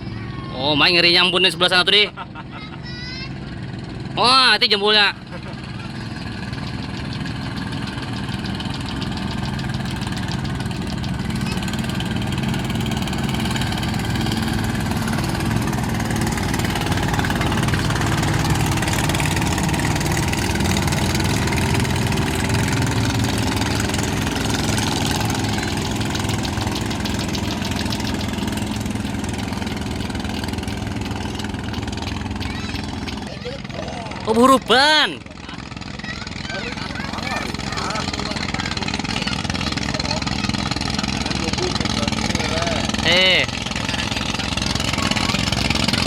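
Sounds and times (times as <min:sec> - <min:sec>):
small boat engine running: 0:00.0 - 0:46.0.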